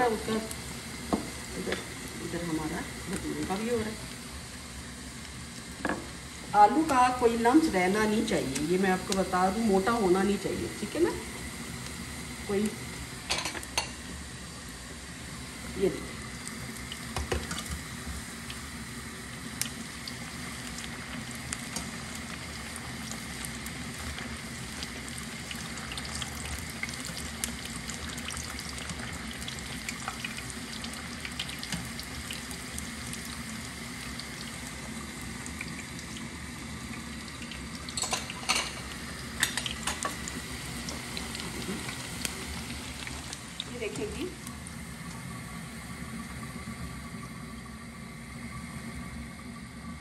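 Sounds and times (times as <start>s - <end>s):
dough deep-frying in oil: 0.0s - 50.0s.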